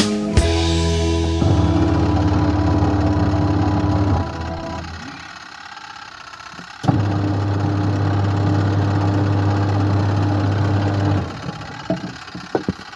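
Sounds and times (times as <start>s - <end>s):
washing machine motor humming: 0.4s - 12.9s.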